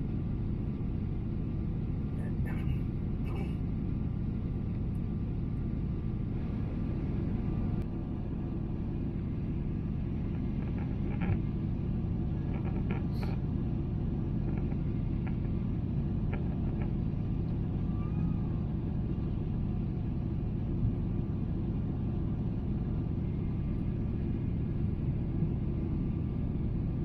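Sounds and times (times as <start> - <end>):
airplane cabin engine rumble: 0.0 - 27.0.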